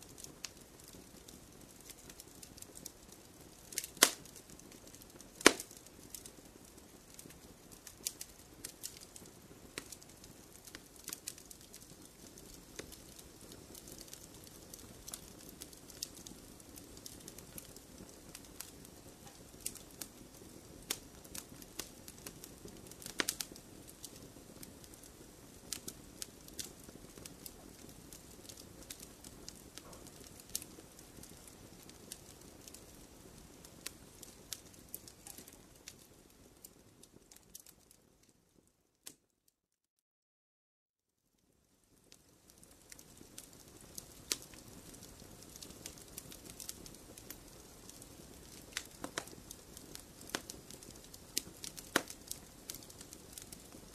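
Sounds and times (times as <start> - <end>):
low rush of flame: 0.0 - 38.3, 41.9 - 53.9
fire crackles and pops: 0.0 - 39.3, 41.4 - 53.9.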